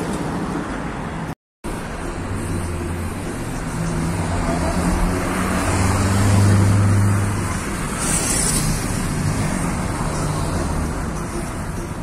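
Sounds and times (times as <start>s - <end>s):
road traffic passing: 0.0s - 12.0s
vehicle engine hum: 1.6s - 12.0s.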